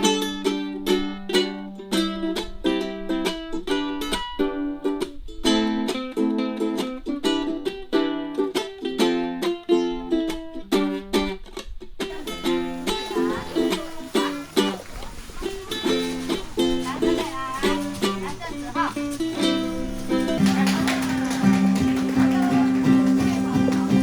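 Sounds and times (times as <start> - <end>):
ukulele chords strummed: 0.0 - 24.0.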